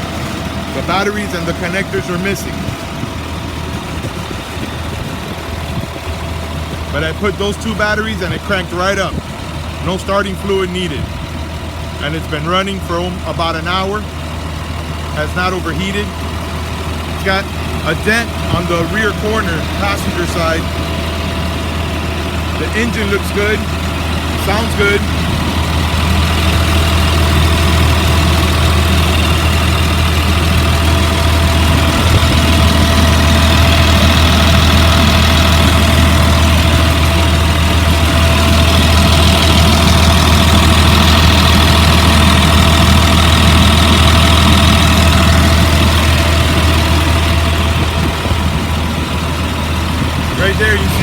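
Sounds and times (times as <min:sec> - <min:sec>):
bus engine idling: 0:00.0 - 0:51.0.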